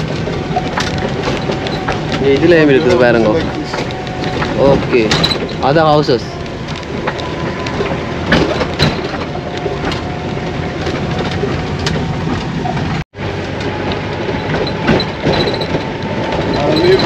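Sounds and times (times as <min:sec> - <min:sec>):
rattling: 0:00.0 - 0:17.0
vehicle engine and road rumble: 0:00.0 - 0:17.0.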